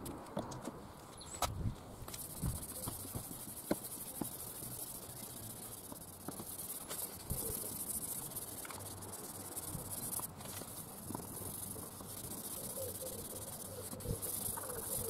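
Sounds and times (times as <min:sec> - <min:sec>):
polishing pad hissing on plastic: 0:02.2 - 0:15.0.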